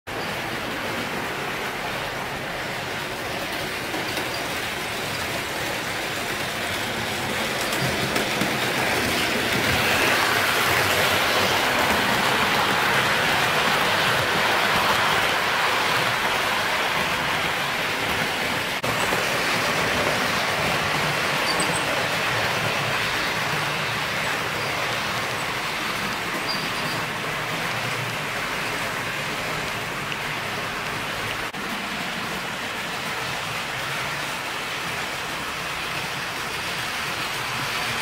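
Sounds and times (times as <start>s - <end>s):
model train wheels clattering on rails: 0.1s - 38.0s.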